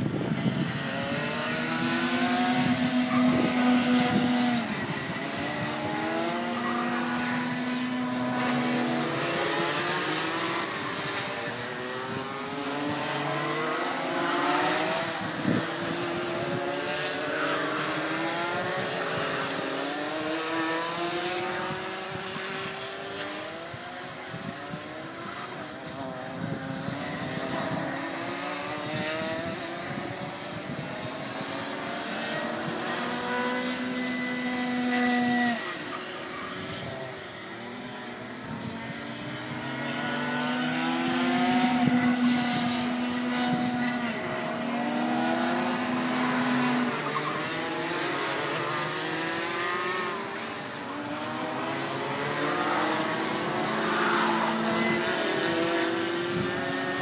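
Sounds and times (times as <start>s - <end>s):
kart engines racing: 0.0s - 57.0s.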